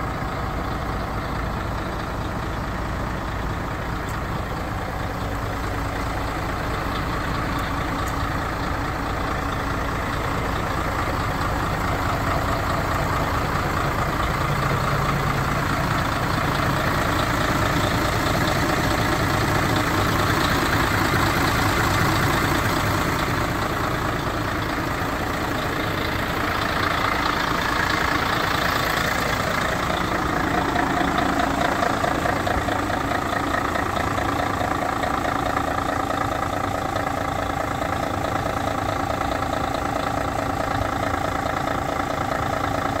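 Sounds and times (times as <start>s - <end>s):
diesel truck engine idling: 0.0s - 43.0s.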